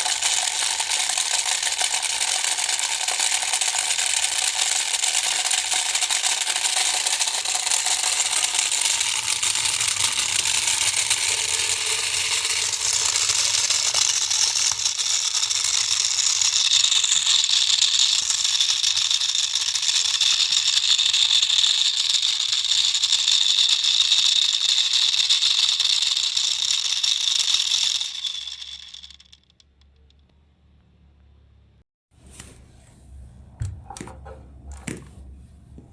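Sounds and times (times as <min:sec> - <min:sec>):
toy motor rattling buzz: 0:00.0 - 0:30.2.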